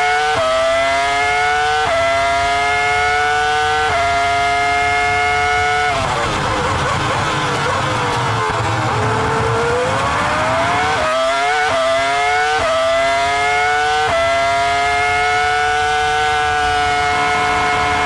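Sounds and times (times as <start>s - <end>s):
racing car engine accelerating: 0.0s - 18.0s.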